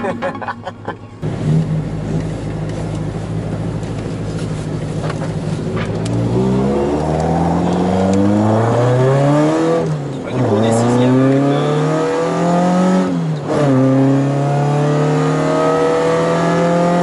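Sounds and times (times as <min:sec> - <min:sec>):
car engine revving: 0:01.2 - 0:17.0.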